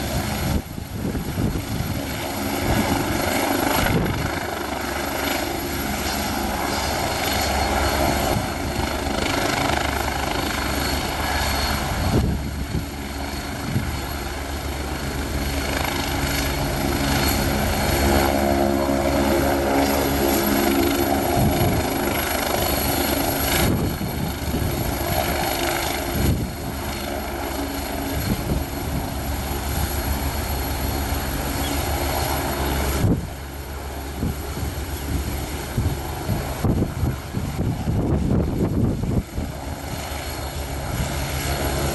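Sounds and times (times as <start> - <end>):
helicopter turbine whine and rotor: 0.0 - 41.9.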